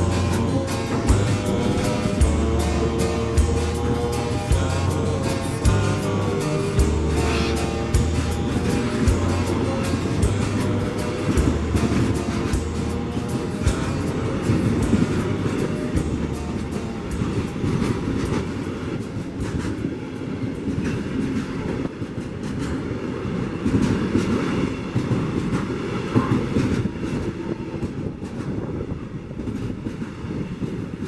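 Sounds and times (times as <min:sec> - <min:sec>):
freight train wagons rumbling: 0:00.0 - 0:31.0
wheels clattering on track: 0:00.0 - 0:31.0.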